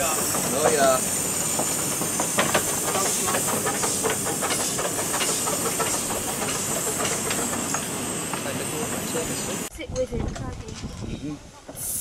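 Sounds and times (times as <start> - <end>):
steam hissing: 0.0 - 9.7, 11.7 - 12.0
steam locomotive chuffing beats: 0.0 - 9.7.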